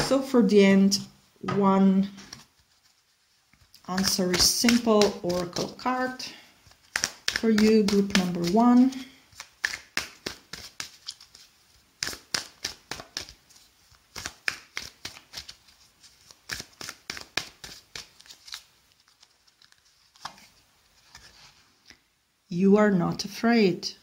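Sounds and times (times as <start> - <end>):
cards being shuffled: 2.1 - 21.6.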